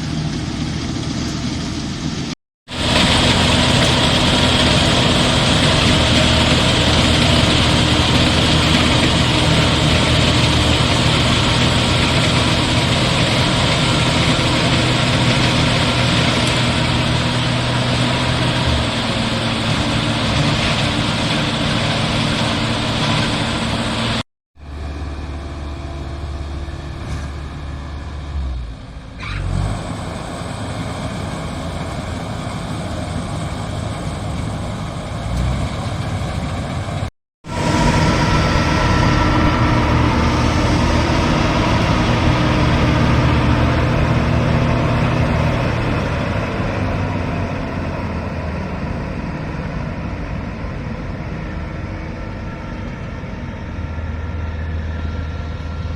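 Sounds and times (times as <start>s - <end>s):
combine harvester engine: 0.0s - 55.9s.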